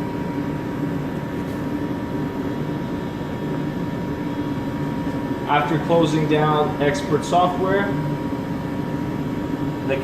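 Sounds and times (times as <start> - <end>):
faint steady whine: 0.0 - 10.0
fan rushing hiss: 0.0 - 10.0.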